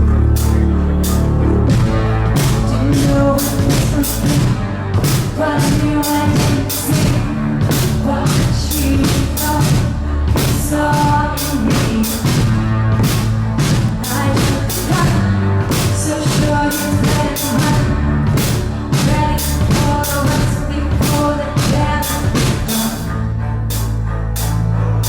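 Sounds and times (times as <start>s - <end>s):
steady drum beat: 0.0s - 24.6s
pop-rock band playing live: 0.4s - 23.1s.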